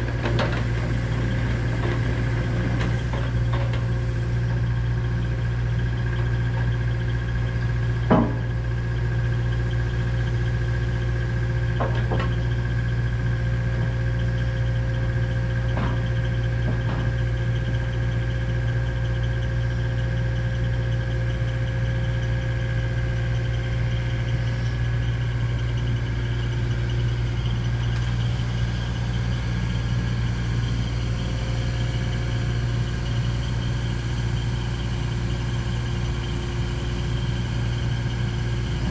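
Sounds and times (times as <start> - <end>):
machine engine idling: 0.0 - 38.9.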